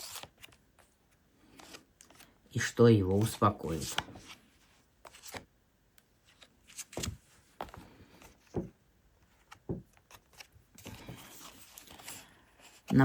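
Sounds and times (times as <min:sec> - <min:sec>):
cards slapping and rustling: 0:00.0 - 0:05.5, 0:06.3 - 0:13.0.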